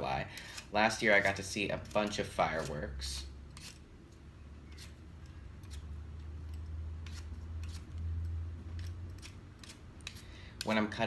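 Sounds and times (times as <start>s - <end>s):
peeler scraping a potato: 0.0s - 3.9s, 4.6s - 11.0s
low steady hum: 0.0s - 11.0s.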